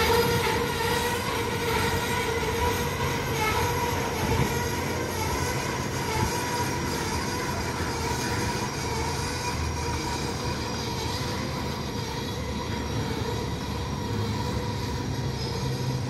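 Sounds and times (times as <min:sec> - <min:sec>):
train wheels rumbling on rail: 0:00.0 - 0:16.0
wheel squeal: 0:00.0 - 0:16.0.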